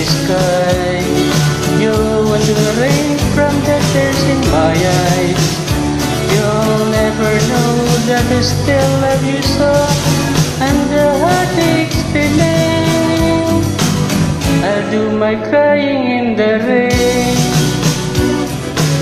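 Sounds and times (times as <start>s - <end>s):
backing track with guitar: 0.0s - 19.0s
person singing karaoke: 0.0s - 19.0s.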